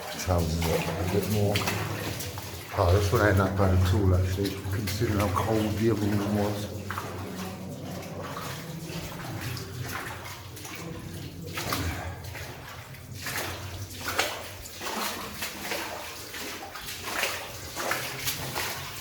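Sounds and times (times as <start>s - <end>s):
wading through shallow water: 0.0s - 19.0s.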